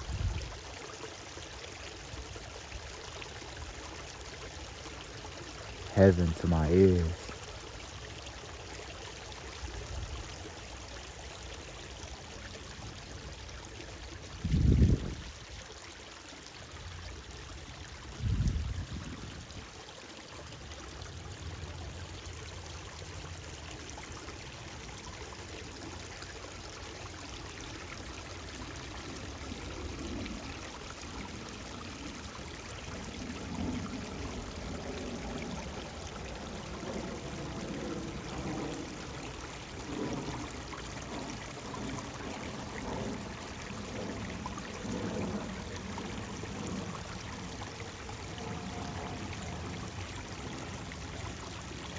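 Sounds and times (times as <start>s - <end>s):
stream water running: 0.0s - 51.9s.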